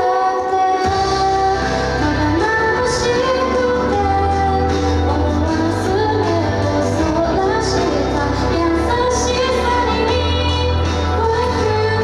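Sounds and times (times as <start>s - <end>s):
pop song with female vocals: 0.0s - 12.0s.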